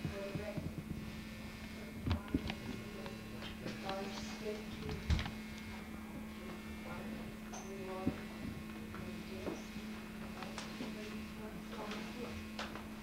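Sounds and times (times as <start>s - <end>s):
faint voices: 0.0s - 13.0s
low electrical hum: 0.0s - 13.0s.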